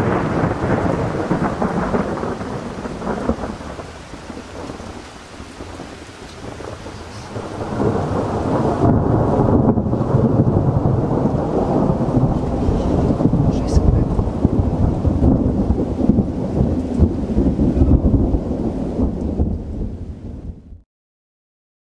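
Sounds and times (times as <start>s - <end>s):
rain falling: 0.0s - 20.7s
rolling thunder: 0.0s - 20.8s.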